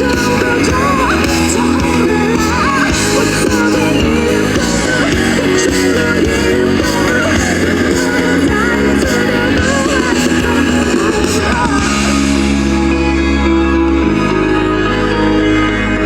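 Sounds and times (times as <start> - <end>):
electric guitar: 0.0 - 16.0
live rock band playing: 0.0 - 16.0
person singing: 0.0 - 16.0.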